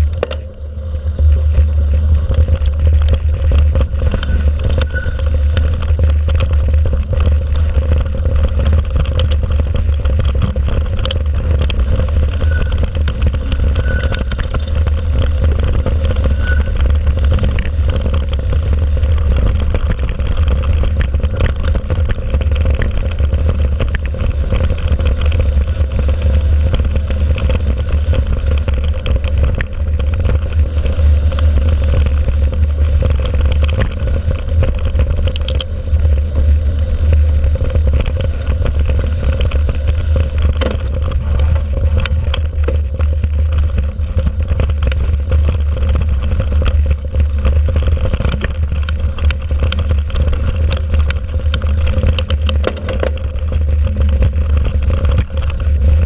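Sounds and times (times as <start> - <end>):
bike rattles and clicks: 0.0 - 56.0
wind rumble on microphone: 0.0 - 56.0.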